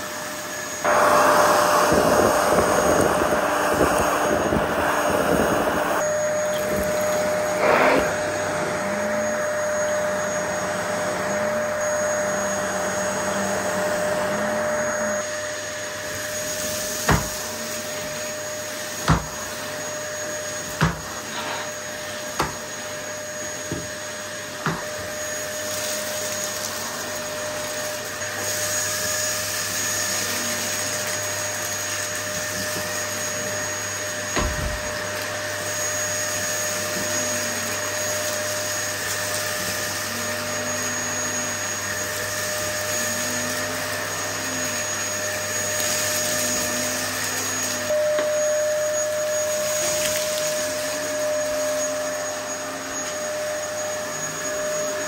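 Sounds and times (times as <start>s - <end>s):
vacuum cleaner whining: 0.0s - 55.0s.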